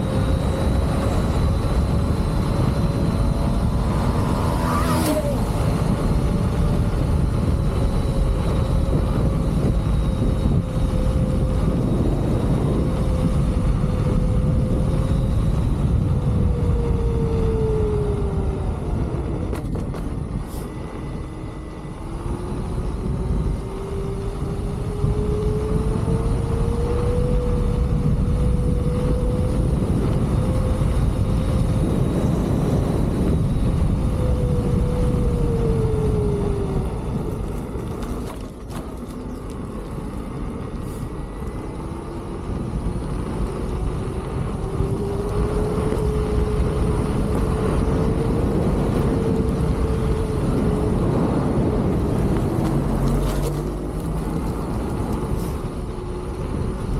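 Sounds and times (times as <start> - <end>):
electric motor whine: 0.0 - 56.9
wind rushing over microphone: 0.0 - 56.9.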